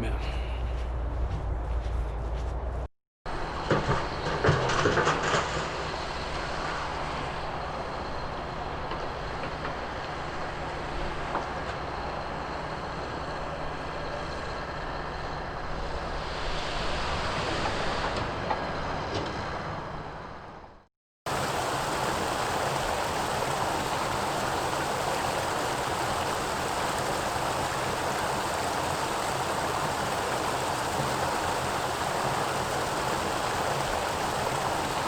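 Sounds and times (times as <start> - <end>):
quarry machinery drone: 3.3 - 35.0.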